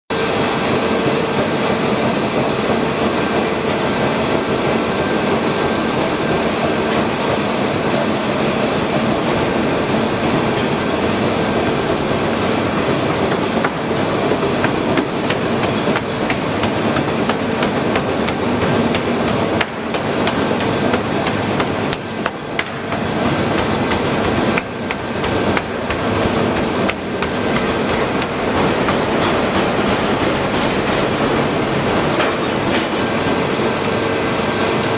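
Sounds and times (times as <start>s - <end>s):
forging machine clattering: 0.2s - 34.9s.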